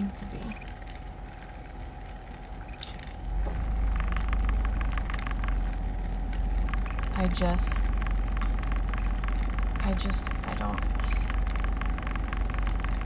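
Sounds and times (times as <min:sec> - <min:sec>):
faint steady hum: 0:00.0 - 0:13.0
light crackling: 0:00.0 - 0:13.0
vehicle cabin rumble: 0:00.0 - 0:13.0.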